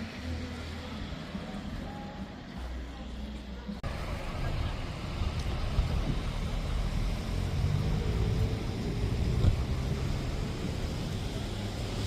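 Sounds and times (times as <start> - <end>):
passing traffic: 0.0 - 12.0.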